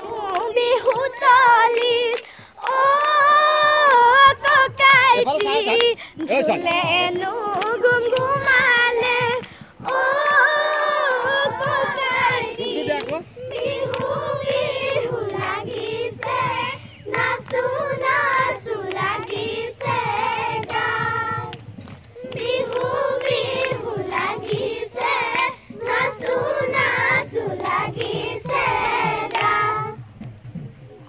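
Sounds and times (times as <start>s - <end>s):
girls singing in unison: 0.0s - 30.0s
hands clapping: 0.0s - 30.6s.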